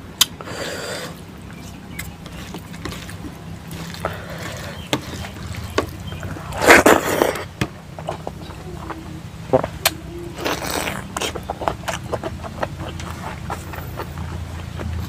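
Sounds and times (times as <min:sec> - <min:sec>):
steady low hum: 0:00.0 - 0:15.0
wet chewing and lip-smacking: 0:00.2 - 0:15.0.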